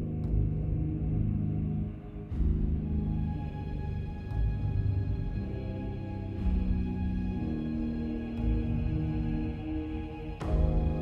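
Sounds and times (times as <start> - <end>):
dark ambient music: 0.0 - 11.0.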